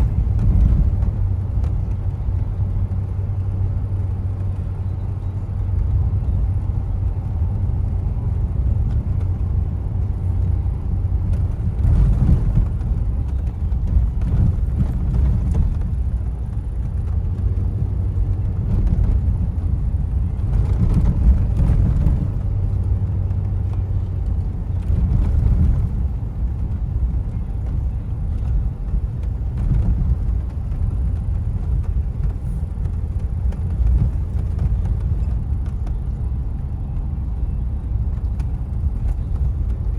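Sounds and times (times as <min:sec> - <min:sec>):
car jolts on bumpy road: 0:00.0 - 0:04.7, 0:05.6 - 0:39.9
car tyres and engine rumble: 0:00.0 - 0:39.9.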